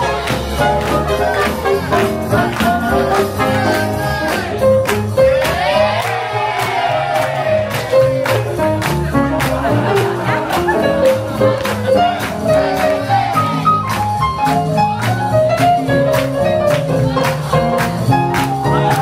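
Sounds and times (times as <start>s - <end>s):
swing jazz music with singer: 0.0s - 19.0s.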